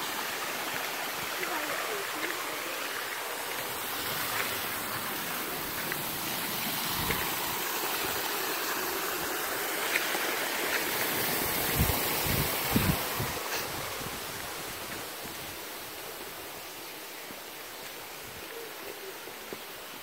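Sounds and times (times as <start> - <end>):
creek water spilling over step: 0.0 - 16.6.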